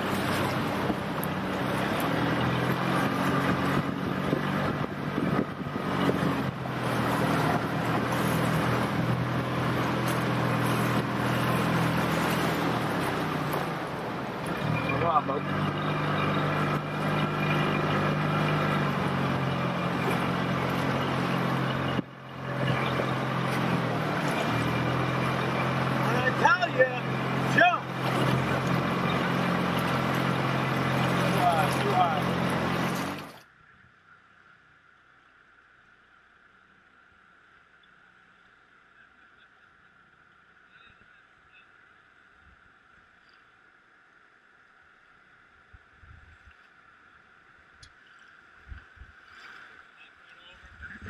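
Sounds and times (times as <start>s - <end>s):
outboard motor running: 0.0s - 51.0s
rushing river water: 0.0s - 51.0s.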